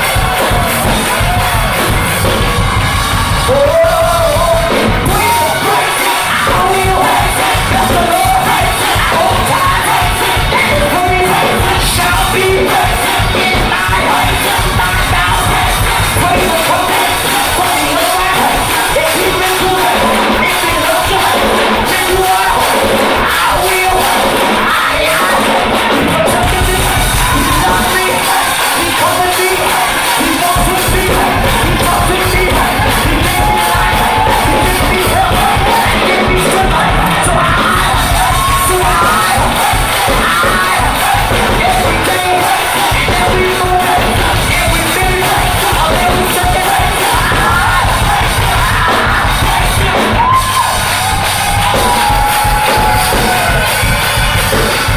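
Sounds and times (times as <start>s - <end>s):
crowd shouting and yelling: 0.0s - 54.9s
gospel choir singing with band: 0.0s - 54.9s.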